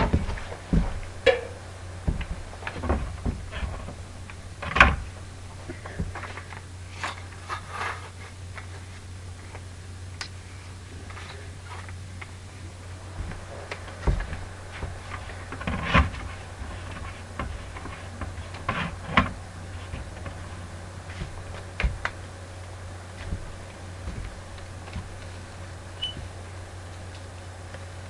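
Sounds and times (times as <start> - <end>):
paint roller scraping stucco wall: 0.0 - 9.6, 10.5 - 28.0
steady low hum: 0.0 - 28.0.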